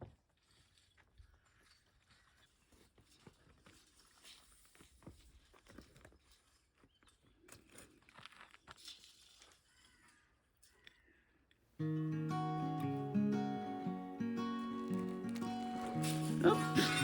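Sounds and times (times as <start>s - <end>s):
faint crunches and clicks: 0.1s - 11.6s, 14.6s - 17.0s.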